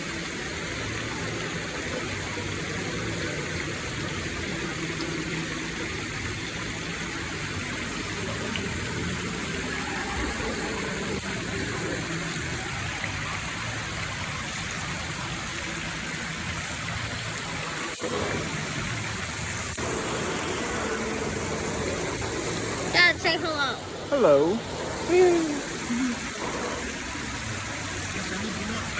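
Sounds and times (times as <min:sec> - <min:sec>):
running water rushing: 0:00.0 - 0:28.9.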